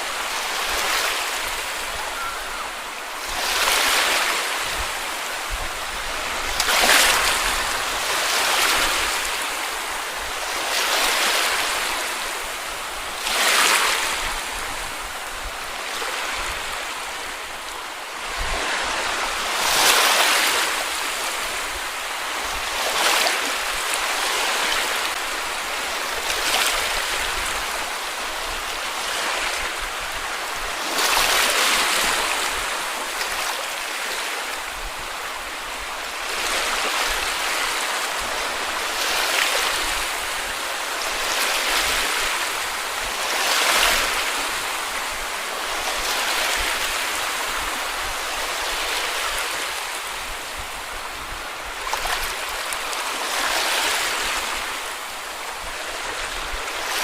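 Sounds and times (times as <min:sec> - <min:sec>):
small waves washing onto beach: 0:00.0 - 0:57.0.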